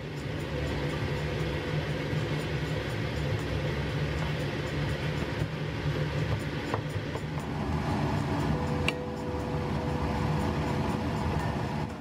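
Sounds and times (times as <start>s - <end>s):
low mechanical rumble with hiss: 0.0s - 12.0s.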